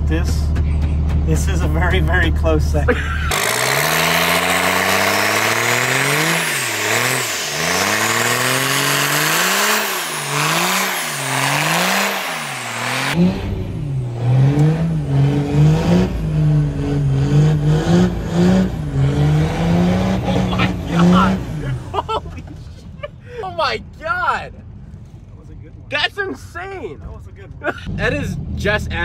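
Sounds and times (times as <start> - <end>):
diesel engine revving: 0.0 - 24.0, 27.7 - 29.0.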